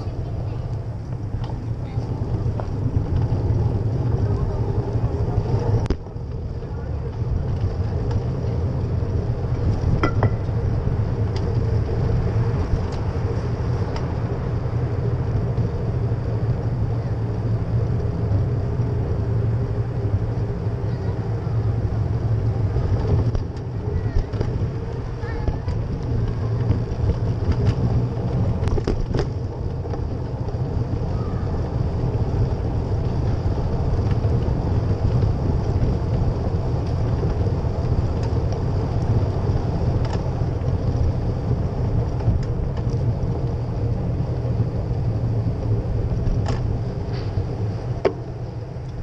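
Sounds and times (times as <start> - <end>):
road vibration rumble: 0.0 - 49.0.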